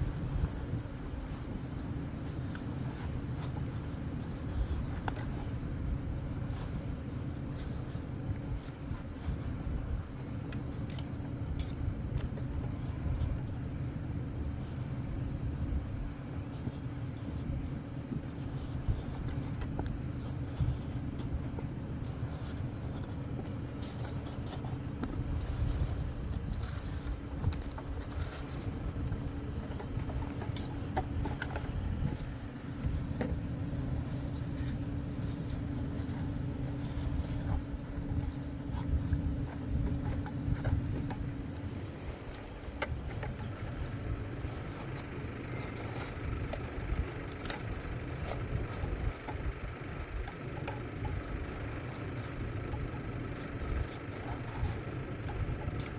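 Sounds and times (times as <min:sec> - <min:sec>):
light clicks and scrapes: 0:00.0 - 0:55.9
low engine hum: 0:00.0 - 0:55.9.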